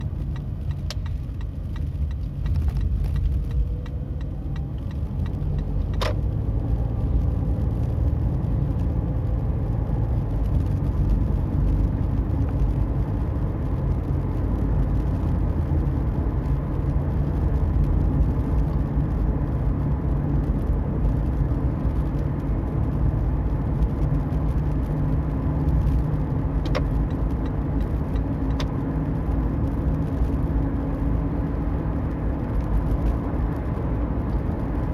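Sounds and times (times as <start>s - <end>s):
road and tyre noise: 0.0s - 34.9s.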